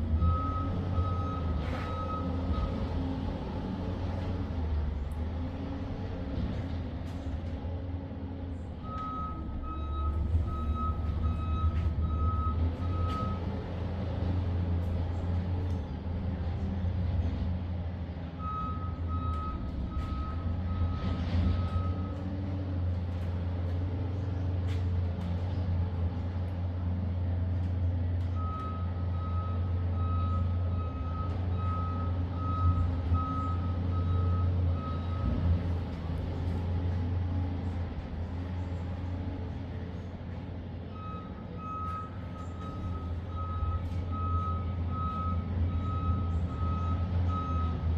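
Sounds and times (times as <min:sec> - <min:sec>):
vehicle engine running: 0:00.0 - 0:47.9.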